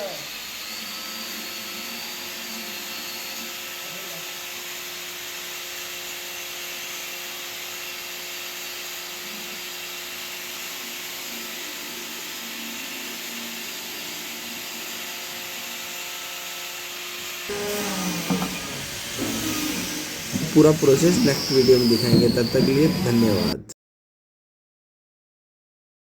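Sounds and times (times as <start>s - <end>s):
power tool whirring: 0.0s - 23.7s.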